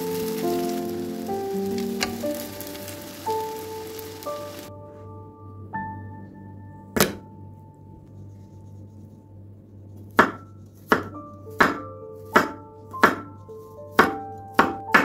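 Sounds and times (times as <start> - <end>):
soft sustained music: 0.0 - 15.0.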